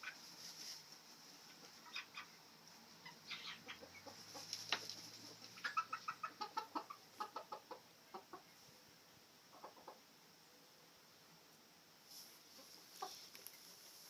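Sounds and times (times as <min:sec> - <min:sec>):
chickens clucking: 0:00.0 - 0:08.7, 0:09.4 - 0:10.3, 0:12.1 - 0:14.0.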